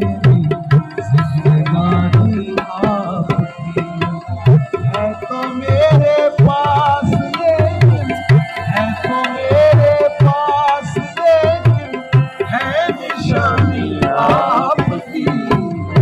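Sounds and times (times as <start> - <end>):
harmonium: 0.0 - 16.0
person singing wavering melody: 0.0 - 16.0
tabla drumming: 0.0 - 16.0.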